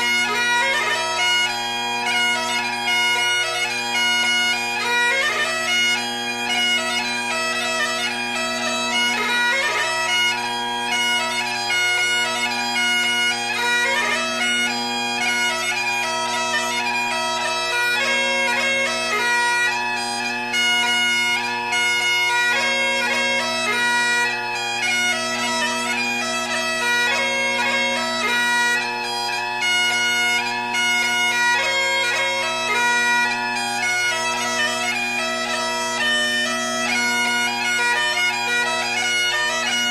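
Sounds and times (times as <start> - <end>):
bagpipe music: 0.0 - 39.9.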